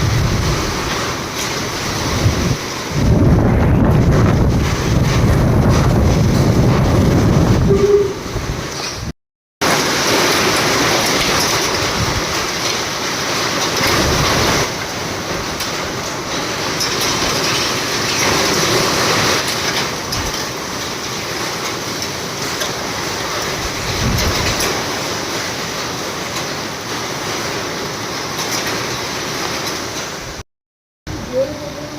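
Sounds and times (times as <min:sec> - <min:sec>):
heavy rain and wind: 0:00.0 - 0:30.4, 0:31.1 - 0:31.9.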